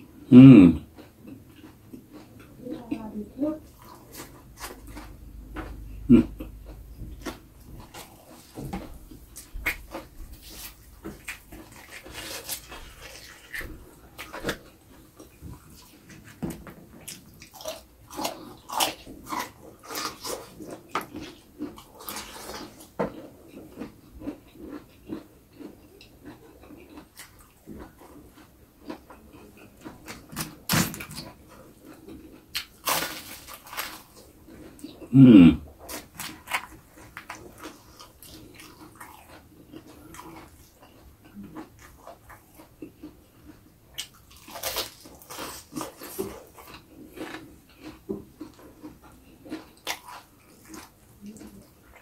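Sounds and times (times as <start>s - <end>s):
crisp chewing crunches: 3.6s - 52.0s.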